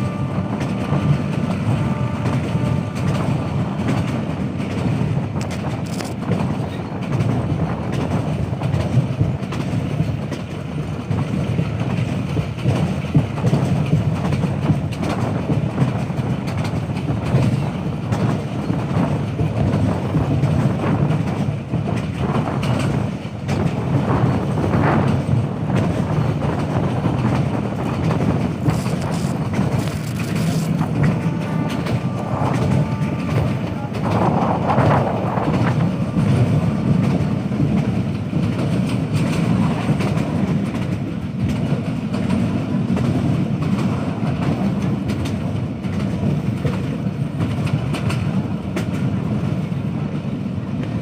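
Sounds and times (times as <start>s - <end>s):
train clickety-clack: 0.0s - 51.0s
train wheels rumbling on rails: 0.0s - 51.0s.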